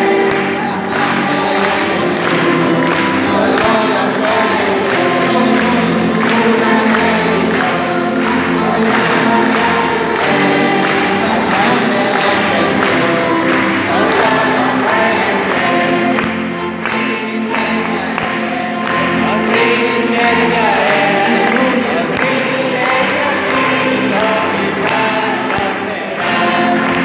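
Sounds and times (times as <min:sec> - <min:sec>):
voices singing together: 0:00.0 - 0:27.0.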